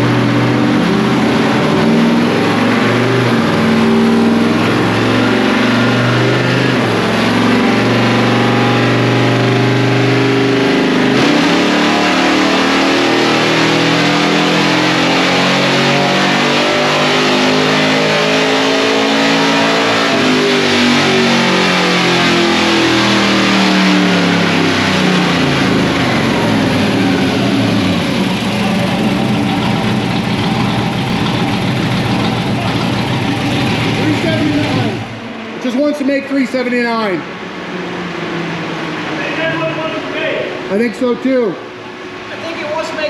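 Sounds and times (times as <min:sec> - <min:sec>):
engine revving on dyno rollers: 0:00.0 - 0:40.9.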